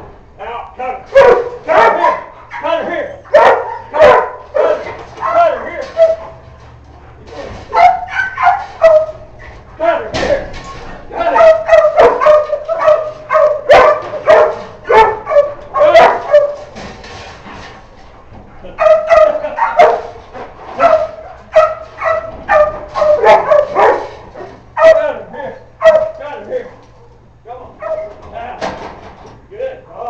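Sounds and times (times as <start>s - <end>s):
dogs barking excitedly: 0.8s - 28.4s.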